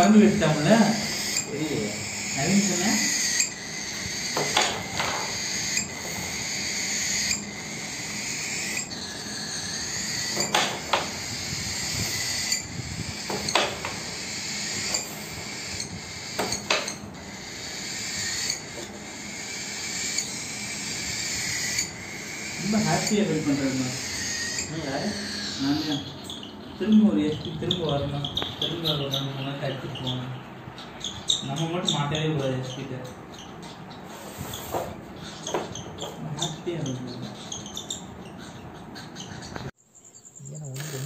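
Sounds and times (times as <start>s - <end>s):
cockatiels raspy calls: 0.0s - 39.7s.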